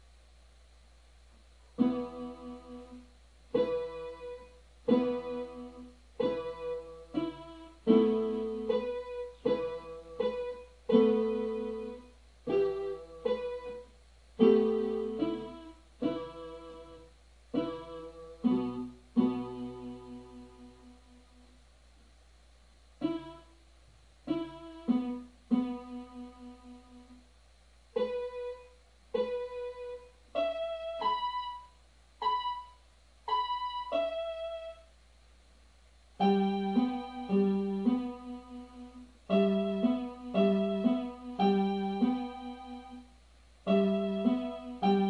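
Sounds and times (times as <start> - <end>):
electronic keyboard folk melody: 1.8 - 21.5, 23.0 - 23.6, 24.2 - 27.2, 27.9 - 34.9, 36.2 - 45.0.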